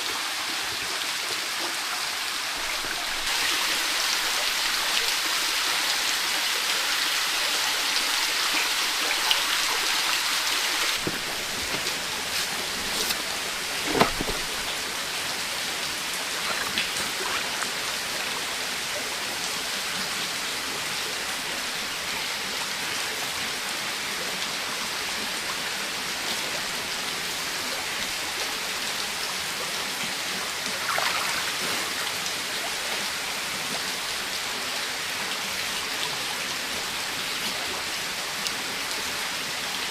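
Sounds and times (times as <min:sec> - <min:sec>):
heavy rain falling: 0:02.1 - 0:39.9.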